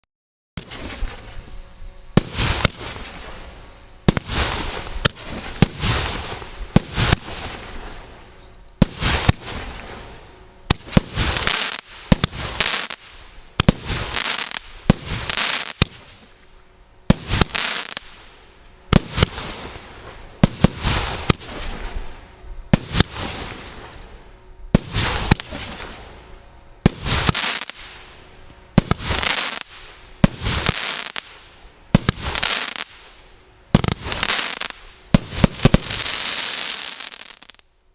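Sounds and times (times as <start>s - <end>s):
firework battery reports: 0.6s - 37.6s
firework hiss: 0.6s - 37.7s.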